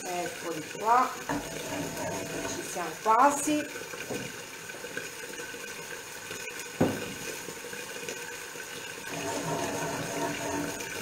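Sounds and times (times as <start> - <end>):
pans simmering on gas hob: 0.0 - 11.0.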